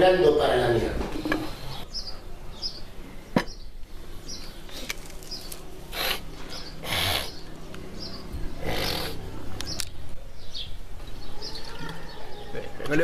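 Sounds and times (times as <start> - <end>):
small bird chirping: 1.4 - 12.7.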